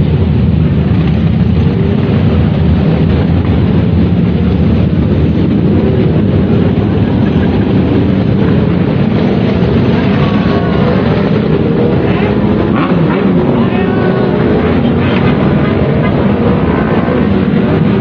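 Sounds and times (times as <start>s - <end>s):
motorcycles riding past: 0.0s - 18.0s.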